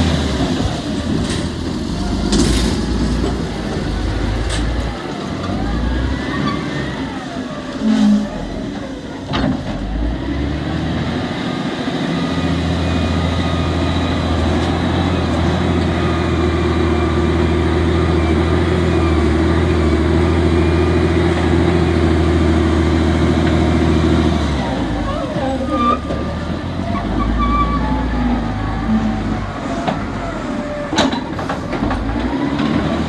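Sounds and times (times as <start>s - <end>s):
large engine humming: 0.0s - 33.0s.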